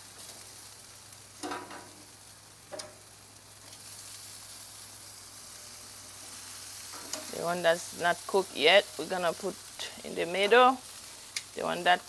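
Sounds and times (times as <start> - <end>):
chicken wings sizzling on a grill: 0.0 - 12.0.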